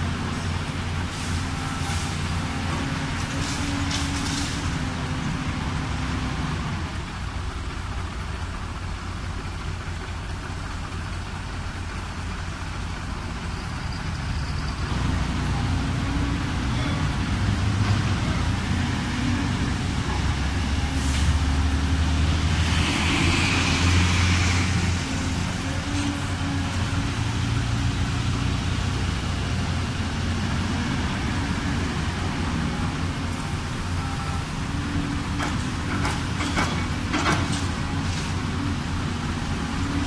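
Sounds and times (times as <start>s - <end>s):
dump truck diesel engine: 0.0s - 40.0s
excavator diesel engine: 0.0s - 40.0s.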